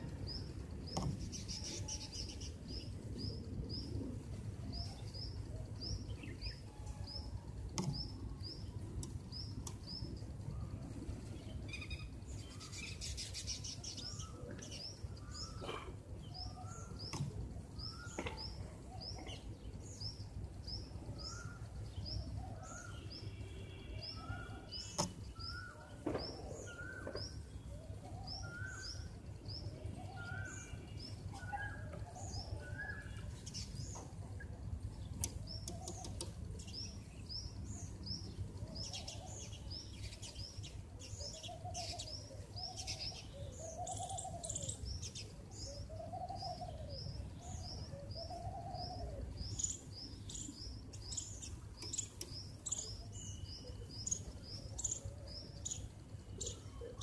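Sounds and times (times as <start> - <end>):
songbird high chirps: 0.0 - 57.0.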